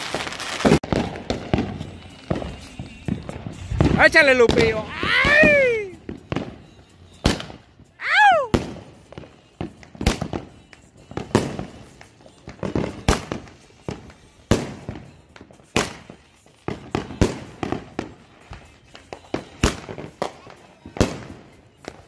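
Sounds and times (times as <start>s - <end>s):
fireworks bangs with echo: 0.0s - 22.0s.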